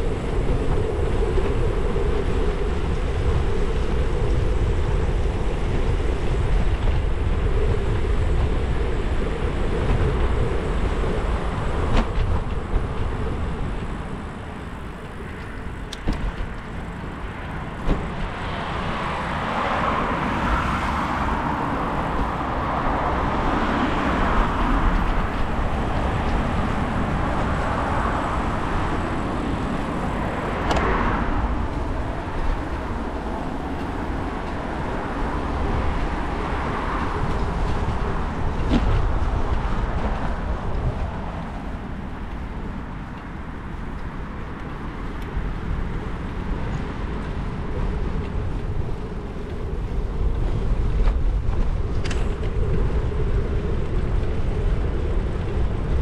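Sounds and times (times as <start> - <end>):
wind rumble on camera: 0.0 - 56.0.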